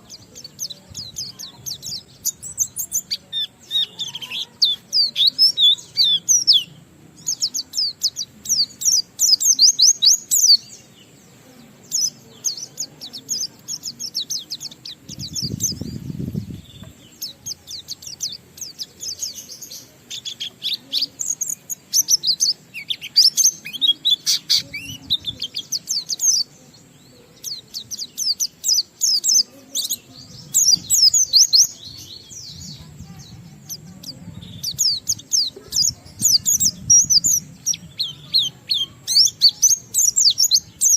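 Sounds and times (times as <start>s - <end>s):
bird twittering chirps and trills: 0.0s - 40.9s.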